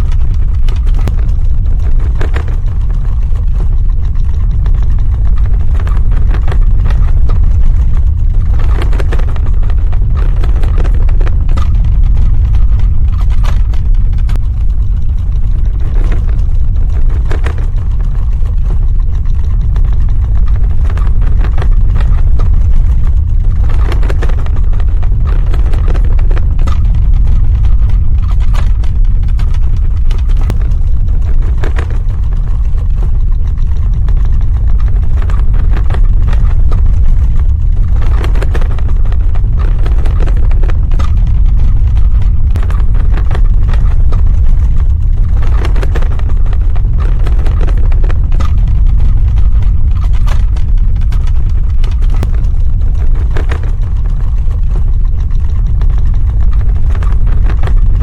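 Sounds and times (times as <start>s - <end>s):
crackling and rattling: 0.0s - 58.0s
deep earthquake rumble: 0.0s - 58.0s.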